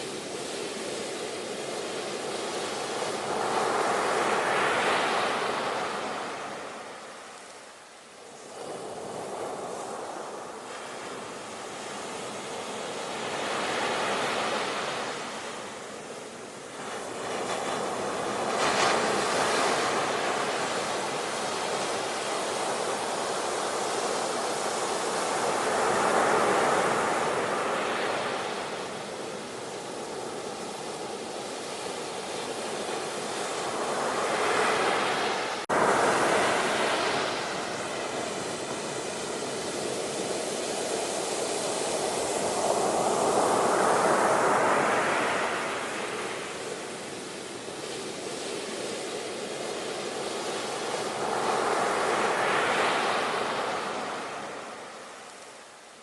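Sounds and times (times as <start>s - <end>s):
ocean waves breaking: 8.2s - 55.7s.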